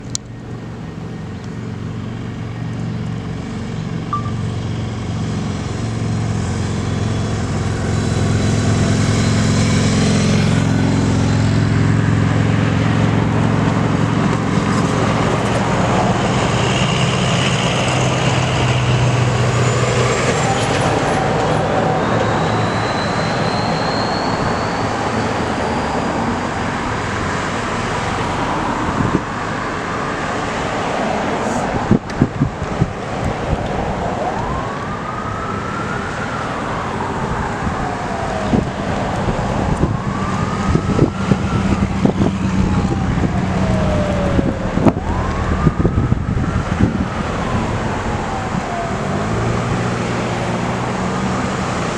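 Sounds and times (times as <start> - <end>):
diesel trucks driving past: 0.0 - 51.9
road and tyre noise: 0.0 - 51.9.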